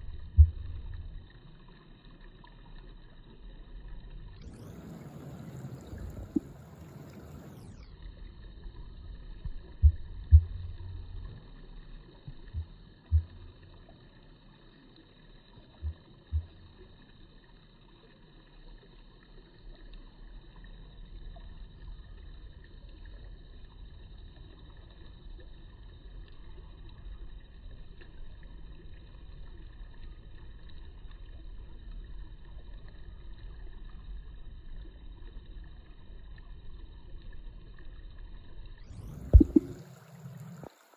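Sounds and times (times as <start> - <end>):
low outdoor rumble: 0.0 - 17.2, 20.1 - 40.9
faint high-pitched whining tones: 0.0 - 40.9.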